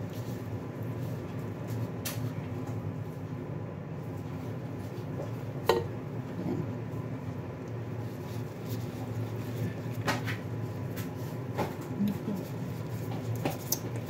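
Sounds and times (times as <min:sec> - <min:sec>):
soft handling of food: 0:00.0 - 0:14.0
steady low hum: 0:00.0 - 0:14.0.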